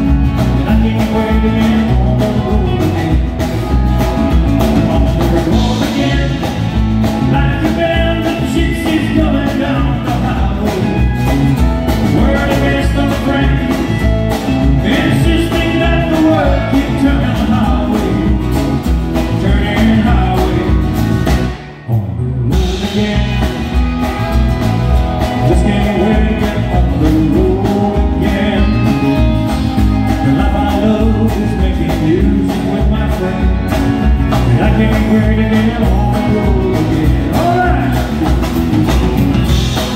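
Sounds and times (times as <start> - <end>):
live country band playing: 0.0 - 39.9
man singing: 0.0 - 39.9.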